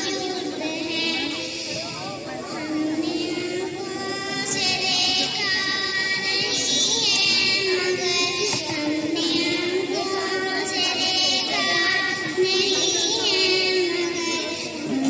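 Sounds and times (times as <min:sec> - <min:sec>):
girl singing into a microphone: 0:00.0 - 0:15.0.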